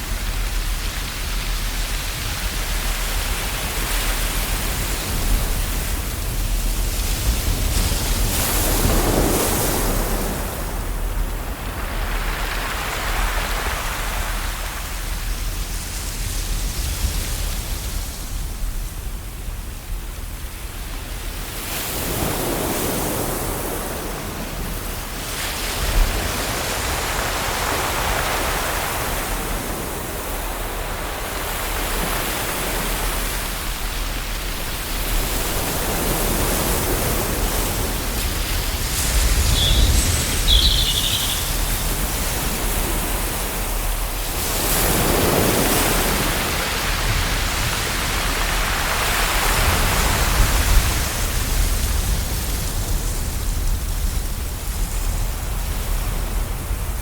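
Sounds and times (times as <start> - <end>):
ocean waves on shore: 0.0 - 57.0.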